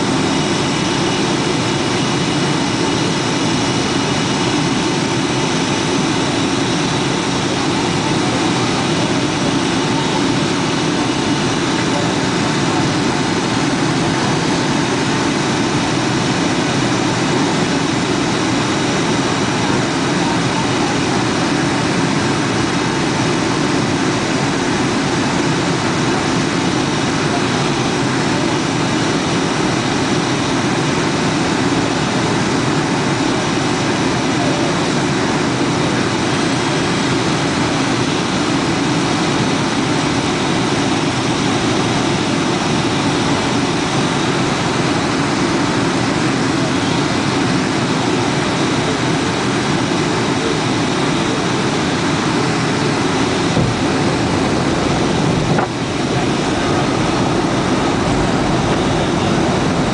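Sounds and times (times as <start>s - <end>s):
air rushing along fuselage: 0.0s - 59.9s
jet engines droning: 0.0s - 59.9s.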